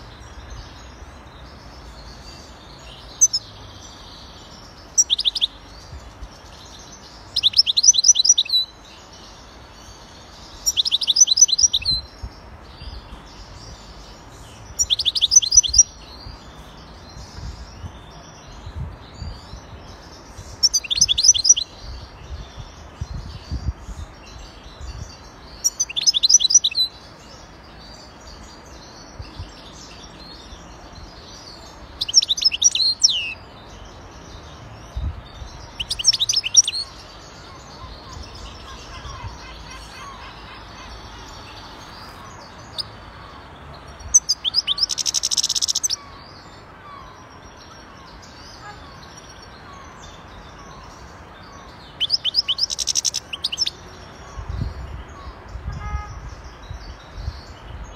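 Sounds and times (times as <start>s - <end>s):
goldfinch trilling song: 0.0s - 57.9s
soft bird twittering: 0.0s - 57.9s.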